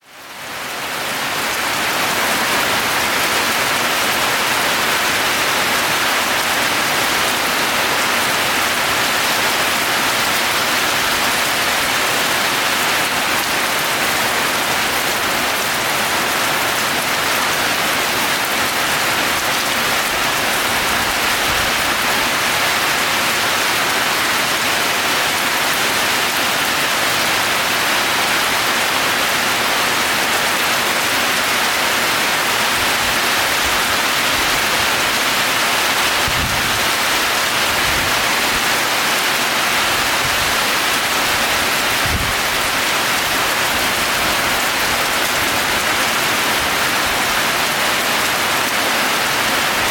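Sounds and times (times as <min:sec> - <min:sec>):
heavy rain on a roof: 0:00.0 - 0:49.9.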